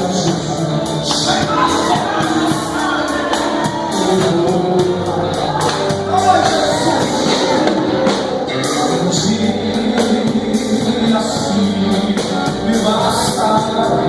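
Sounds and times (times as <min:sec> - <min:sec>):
drum and cymbal beat: 0:00.0 - 0:14.0
live band music: 0:00.0 - 0:14.0
person singing: 0:00.0 - 0:14.0.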